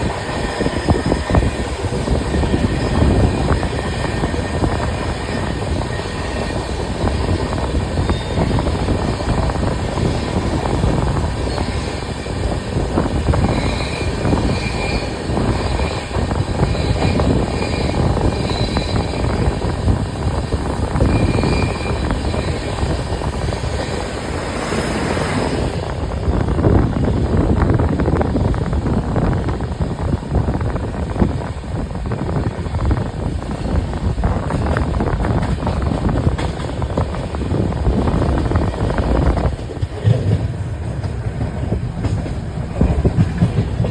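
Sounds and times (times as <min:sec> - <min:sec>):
train rumbling and rattling on track: 0:00.0 - 0:43.9.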